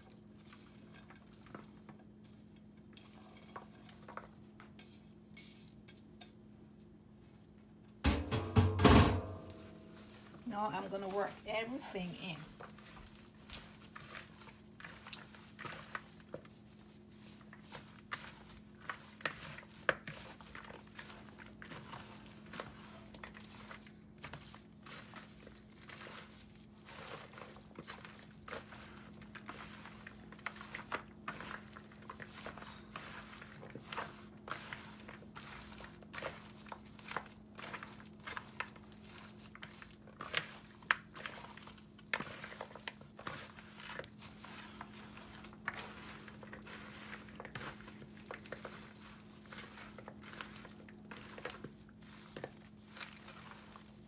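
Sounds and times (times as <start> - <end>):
hands squishing raw meat: 0.0 - 4.8, 9.5 - 54.0.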